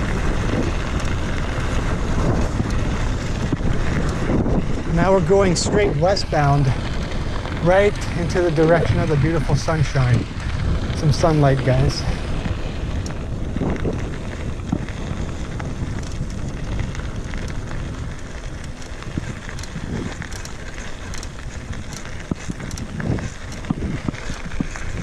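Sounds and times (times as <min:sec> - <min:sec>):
bike clicks and rattles: 0:00.0 - 0:25.0
bike tyres rolling on dirt: 0:00.0 - 0:25.0
wind buffeting microphone: 0:00.0 - 0:25.0.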